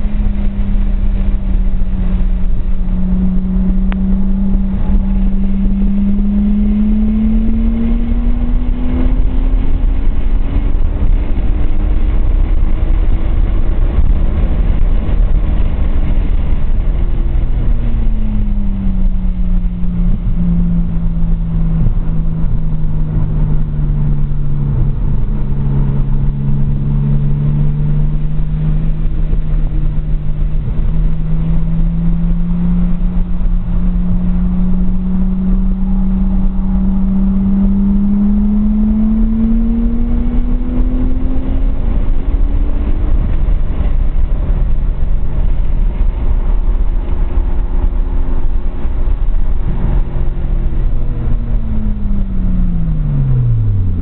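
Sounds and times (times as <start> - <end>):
car engine revving: 0.0 - 54.0
low rumble: 0.0 - 54.0.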